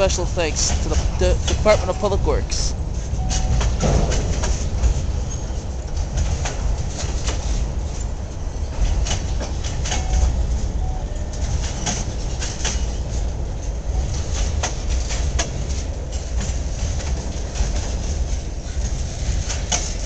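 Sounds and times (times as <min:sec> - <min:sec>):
freight train rumbling past: 0:00.0 - 0:20.0
wheels clacking over rail joints: 0:00.0 - 0:20.0.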